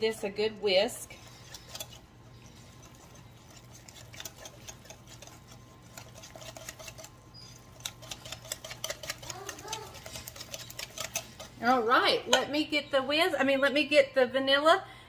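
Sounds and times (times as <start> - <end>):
whisk ticking against bowl: 0.0 - 12.5.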